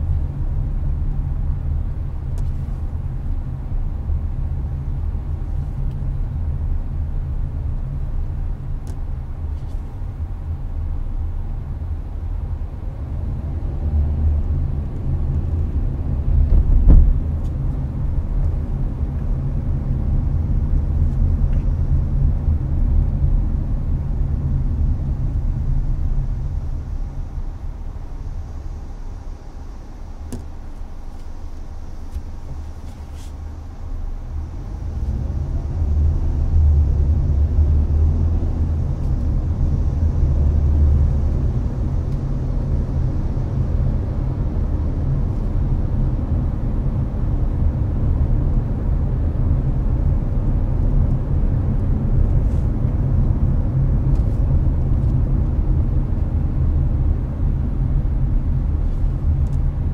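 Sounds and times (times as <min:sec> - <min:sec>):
air conditioner fan hiss: 0:00.0 - 0:59.9
car road and engine rumble: 0:00.0 - 0:59.9.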